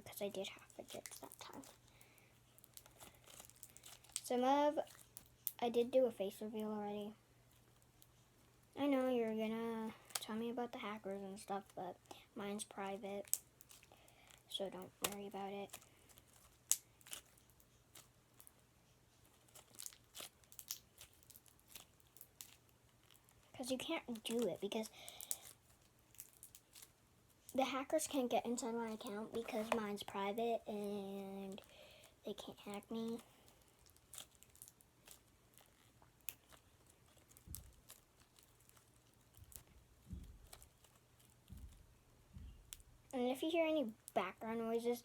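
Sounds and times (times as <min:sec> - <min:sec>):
slime squishing and crackling: 0:00.0 - 0:06.0, 0:12.5 - 0:18.6, 0:19.2 - 0:45.0.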